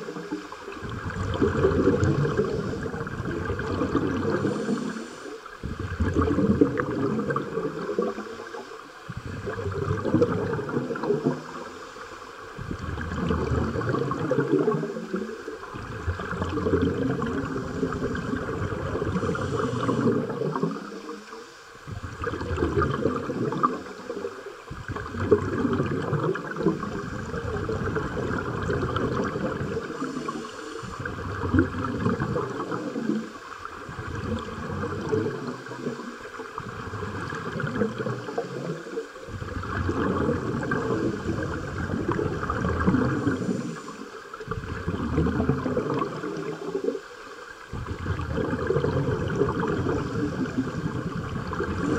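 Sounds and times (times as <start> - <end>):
scuba exhaust bubbles gurgling: 0.0 - 51.9.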